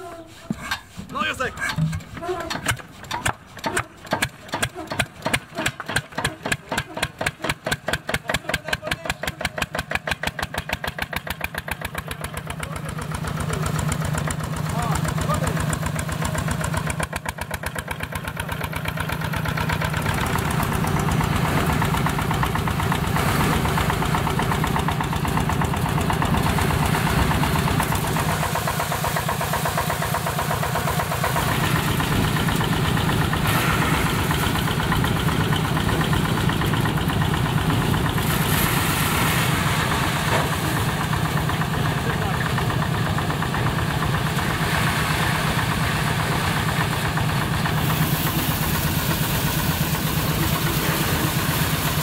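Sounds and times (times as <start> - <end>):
threshing machine running: 0.1 - 52.0.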